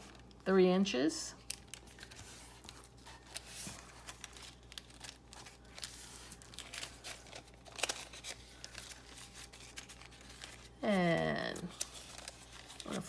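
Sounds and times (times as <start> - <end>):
paper crinkling and rustling: 0.0 - 0.4, 1.4 - 13.0.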